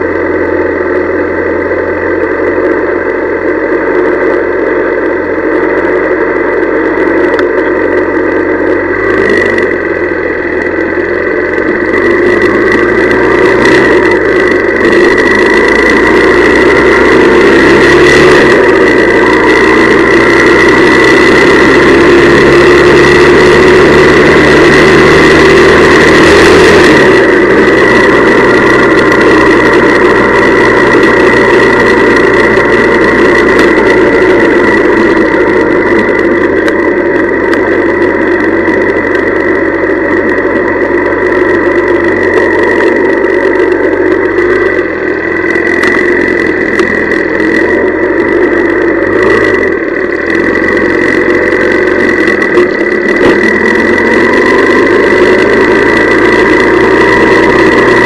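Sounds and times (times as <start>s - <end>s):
high whine: 0.0s - 58.0s
motorcycle engine running: 0.0s - 58.0s.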